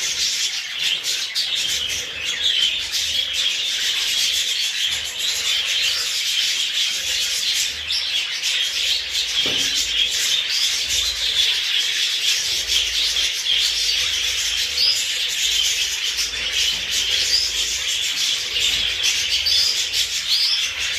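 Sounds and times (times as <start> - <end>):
budgerigars chattering: 0.0 - 20.9
high bird chirps: 0.0 - 20.9.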